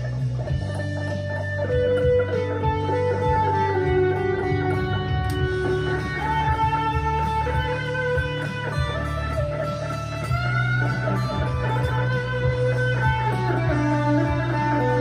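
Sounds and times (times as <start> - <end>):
overdriven electric guitar lead: 0.0 - 15.0.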